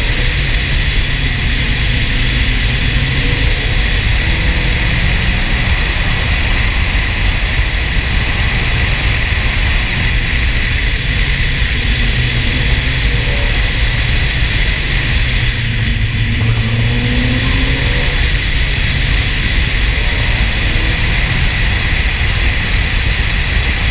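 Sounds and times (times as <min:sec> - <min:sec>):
car engine: 0:00.0 - 0:23.9
wind and road noise: 0:00.0 - 0:23.9.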